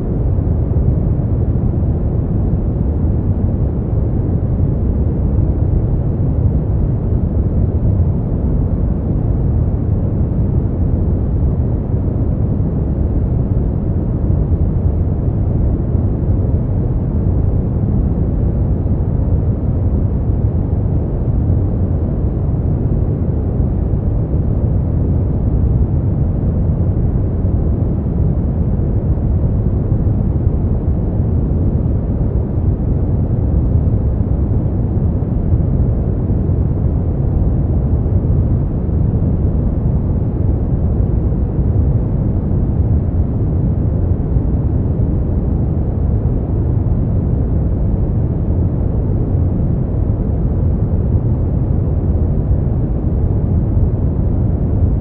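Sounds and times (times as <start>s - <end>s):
brown noise: 0.0s - 55.0s.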